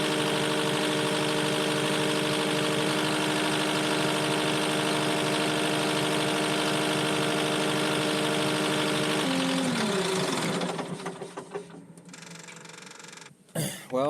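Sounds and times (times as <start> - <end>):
skid steer loader engine: 0.0 - 13.3.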